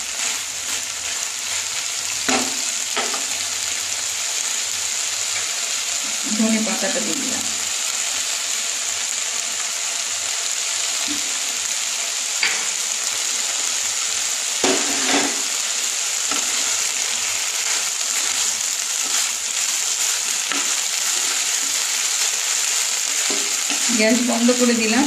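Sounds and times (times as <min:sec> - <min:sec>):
vegetables sizzling in a pan: 0:00.0 - 0:25.0.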